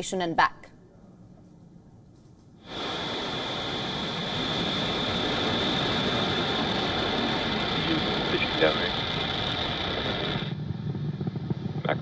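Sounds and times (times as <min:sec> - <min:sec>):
rocket engines roaring: 0:01.0 - 0:12.0.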